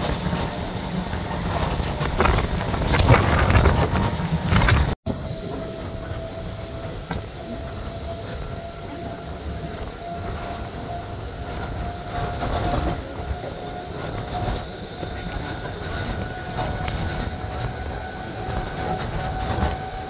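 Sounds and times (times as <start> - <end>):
rushing air: 0.0 - 20.0
thin steady whine: 0.0 - 20.0
train wheels rumbling on rails: 0.0 - 20.0.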